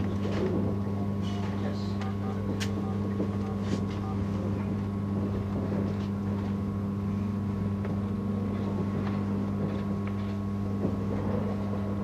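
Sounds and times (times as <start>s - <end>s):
train low hum: 0.0s - 12.0s
train ride rumble: 0.0s - 12.0s.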